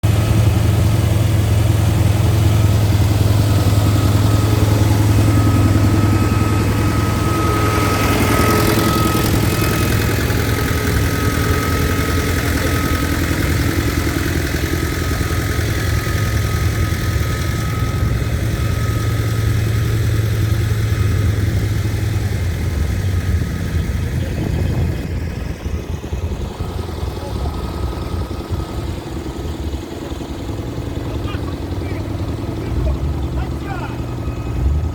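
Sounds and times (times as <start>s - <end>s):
engine idling with deep hum: 0.0s - 34.9s.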